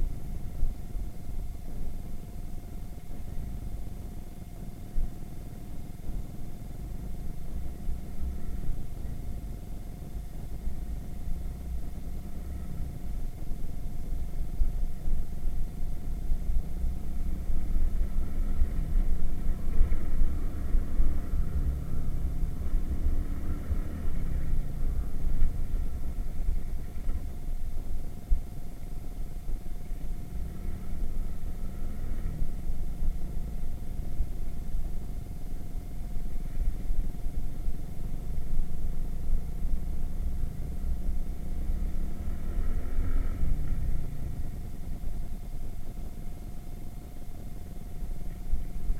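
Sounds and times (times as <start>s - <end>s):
wind rumble on microphone: 0.0s - 48.9s.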